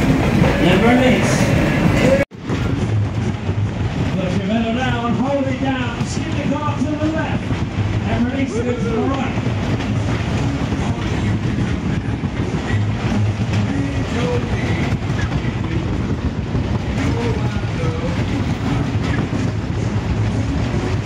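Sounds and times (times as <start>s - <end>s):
fairground ride rumbling and rattling: 0.0s - 21.0s.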